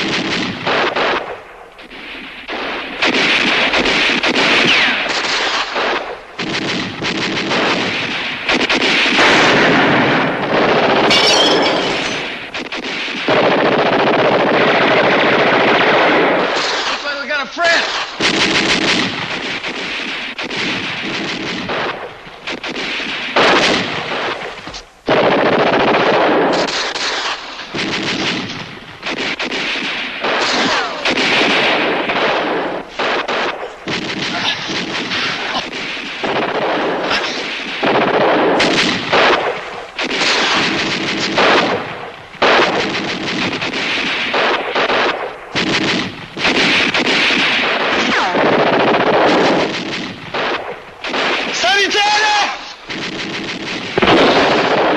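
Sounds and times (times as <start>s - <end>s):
automatic gunfire bursts: 0.0s - 1.3s, 2.0s - 24.5s, 25.1s - 54.9s
single gunshots: 0.0s - 54.9s.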